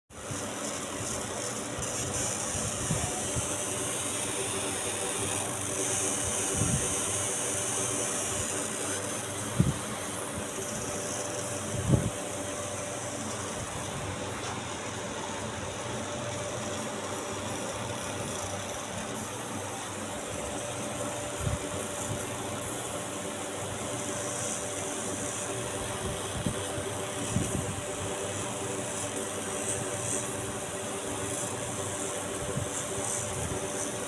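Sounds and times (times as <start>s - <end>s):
laser marking machine fan hum: 0.1s - 34.0s.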